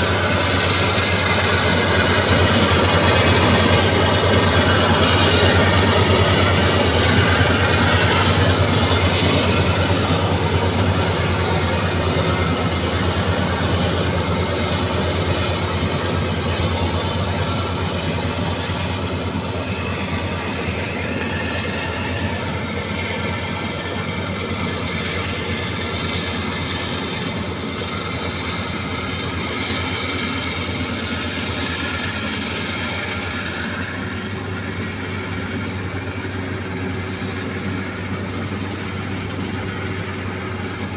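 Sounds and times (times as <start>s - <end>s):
combine harvester engine hum: 0.0s - 40.9s
machinery clatter: 0.0s - 40.9s.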